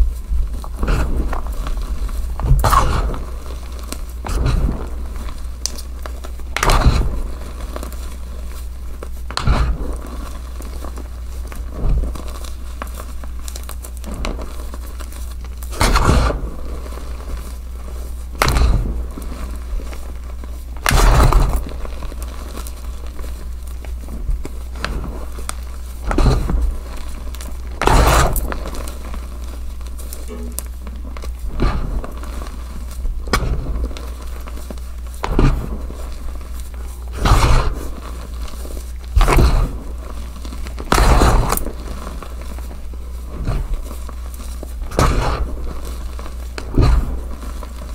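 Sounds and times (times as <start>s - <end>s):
hands crushing chalk: 0.0s - 47.9s
steady low hum: 0.0s - 47.9s.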